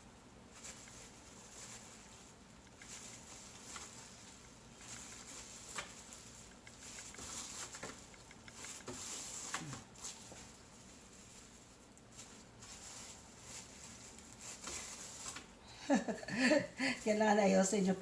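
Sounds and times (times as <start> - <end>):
hands rustling and tapping: 0.5 - 15.6.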